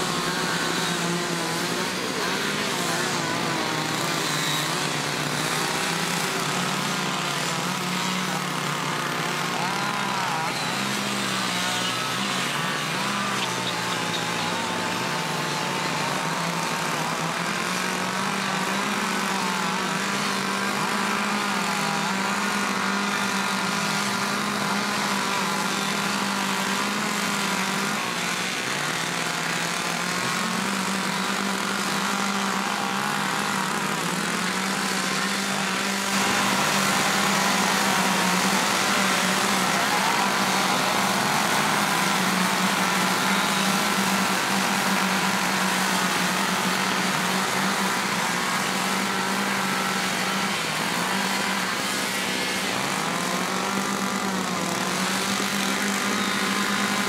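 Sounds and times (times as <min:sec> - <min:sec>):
chainsaws cutting wood: 0:00.0 - 0:57.0.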